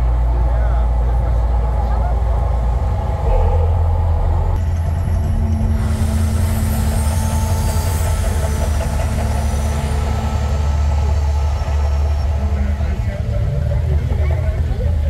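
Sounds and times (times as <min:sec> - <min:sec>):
deep rumble: 0:00.0 - 0:15.0.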